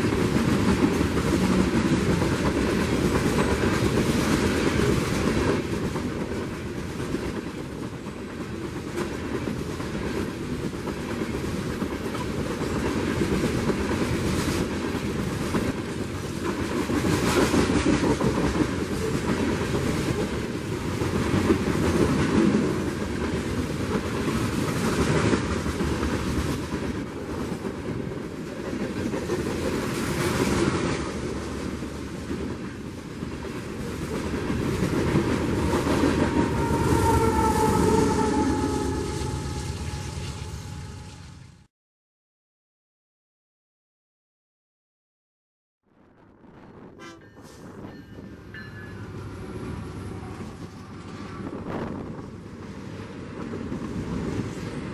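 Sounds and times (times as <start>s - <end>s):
steel wheels rumbling on rail: 0.0s - 41.7s, 46.4s - 54.9s.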